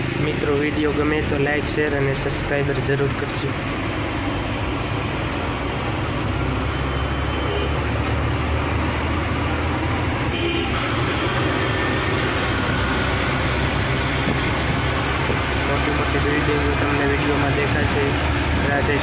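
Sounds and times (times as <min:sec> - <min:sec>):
bus engine running: 0:00.0 - 0:19.0
tyre and road noise: 0:00.0 - 0:19.0.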